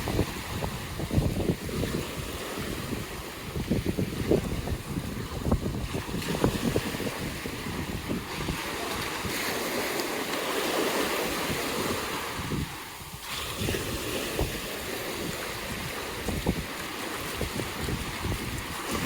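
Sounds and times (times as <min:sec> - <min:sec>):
sea surf washing onto beach: 0:00.0 - 0:19.0
wind buffeting microphone: 0:00.0 - 0:19.0.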